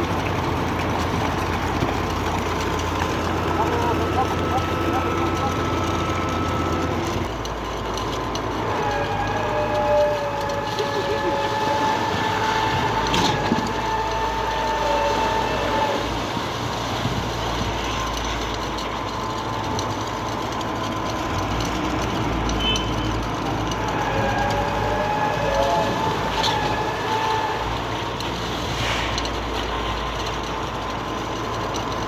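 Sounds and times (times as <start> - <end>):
concrete pump mechanical din: 0.0 - 32.0.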